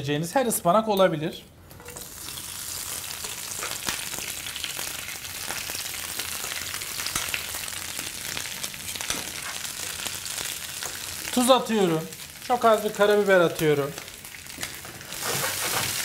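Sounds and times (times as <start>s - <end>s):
spinach sizzling in hot oil: 1.9s - 16.0s.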